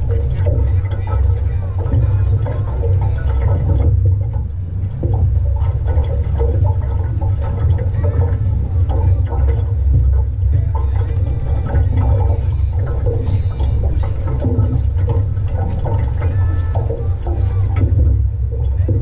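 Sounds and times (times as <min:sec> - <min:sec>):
low rumble: 0:00.0 - 0:19.0
river water lapping on hull: 0:00.0 - 0:19.0.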